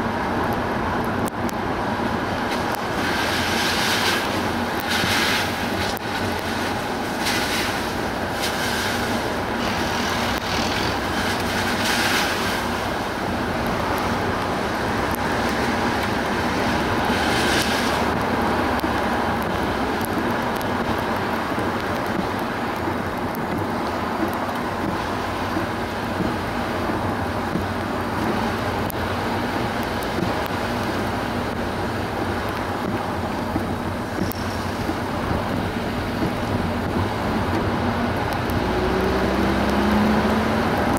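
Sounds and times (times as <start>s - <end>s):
car engine drone: 0.0s - 40.9s
tyre and road noise: 0.0s - 40.9s.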